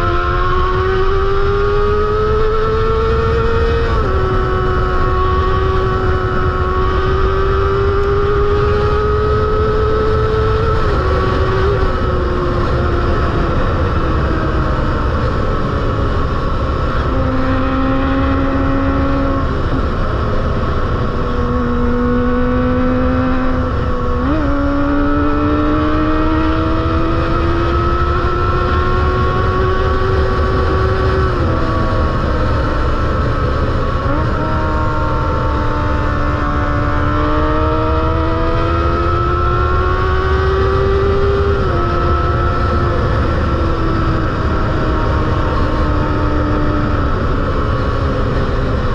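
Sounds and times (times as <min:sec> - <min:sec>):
motorcycle engine revving high: 0:00.0 - 0:48.9.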